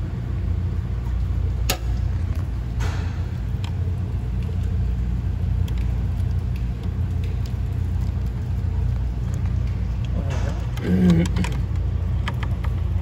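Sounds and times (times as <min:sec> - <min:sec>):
low machinery rumble: 0:00.0 - 0:13.0.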